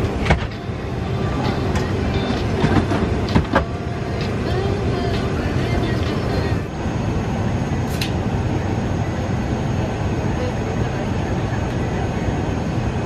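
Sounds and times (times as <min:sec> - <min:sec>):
cabin air conditioning hum: 0:00.0 - 0:13.0.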